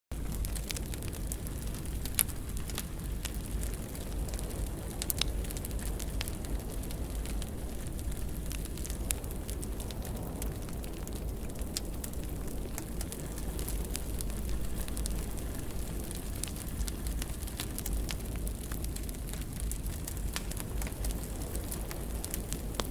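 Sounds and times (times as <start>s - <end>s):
wood fire crackling: 0.1s - 22.9s.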